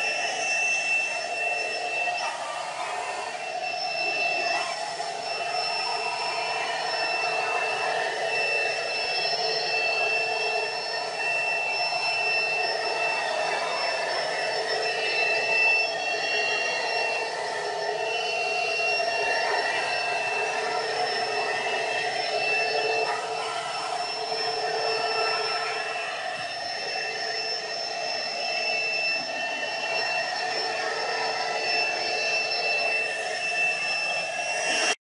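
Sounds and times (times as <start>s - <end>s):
vacuum cleaner motor whine: 0.0s - 35.0s.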